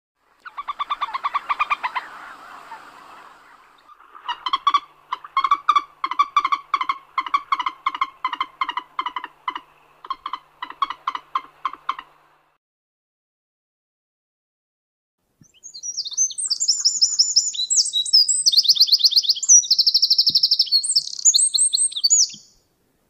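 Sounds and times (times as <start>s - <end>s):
moorhen calling: 0.2s - 12.5s, 15.4s - 22.6s.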